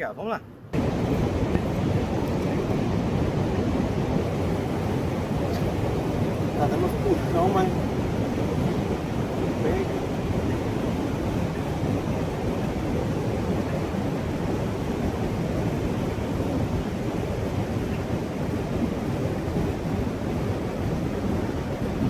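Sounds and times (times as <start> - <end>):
river water rushing: 0.8 - 22.0.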